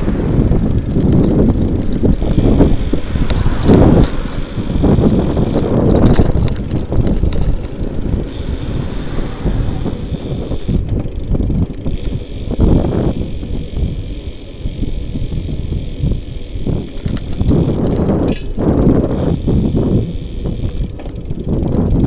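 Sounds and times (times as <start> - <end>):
tyre and road rumble: 0.0 - 22.0
wind buffeting microphone: 0.0 - 22.0.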